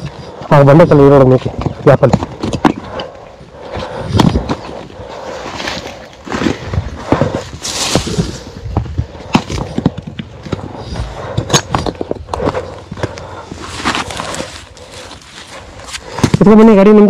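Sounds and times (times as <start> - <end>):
rocks knocking and clattering: 1.0 - 16.8.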